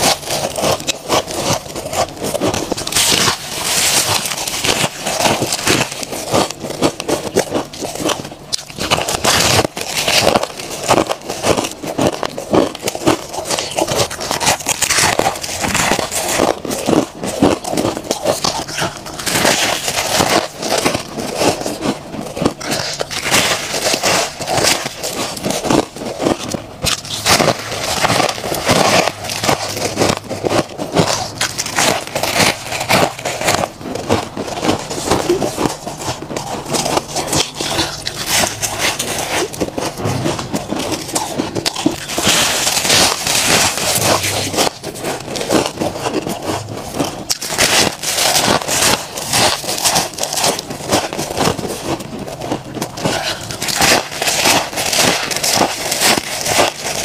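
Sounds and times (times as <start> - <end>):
frost being chewed: 0.0 - 57.0.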